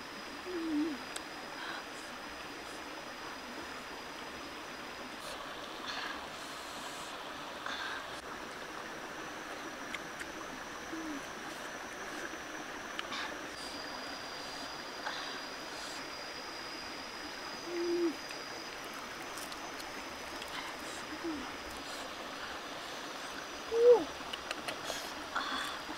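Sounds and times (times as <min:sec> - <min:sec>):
faint high steady whine: 0:00.0 - 0:25.9
small rocky stream rushing: 0:00.0 - 0:25.9.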